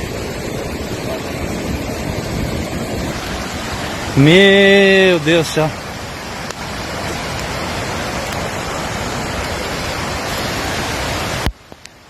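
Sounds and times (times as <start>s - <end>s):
fast-flowing floodwater rushing: 0.0s - 12.0s.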